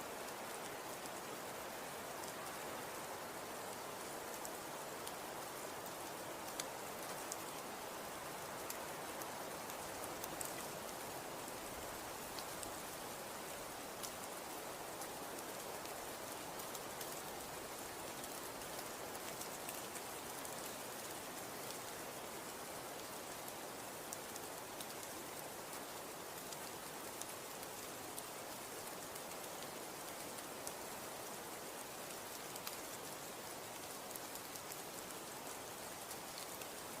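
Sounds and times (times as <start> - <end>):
snow and wind hiss: 0.0 - 37.0
faint ticks: 3.4 - 7.7, 8.6 - 11.1, 11.7 - 37.0.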